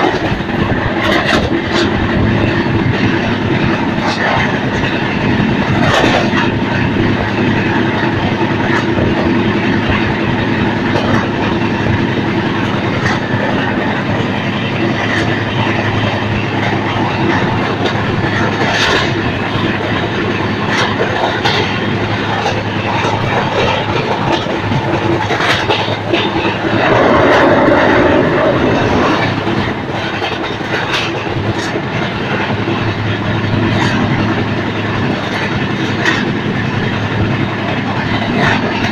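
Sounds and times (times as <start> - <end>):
train rumble on rails: 0.0 - 38.9
wheels clacking over rail joints: 0.0 - 38.9.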